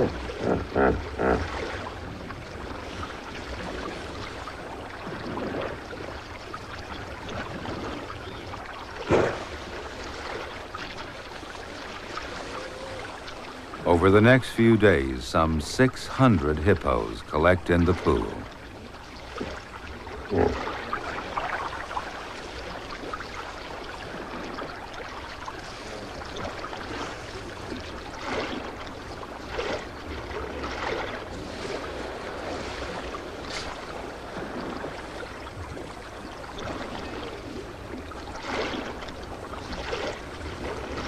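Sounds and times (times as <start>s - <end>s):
water and mud sloshing: 0.0s - 41.0s.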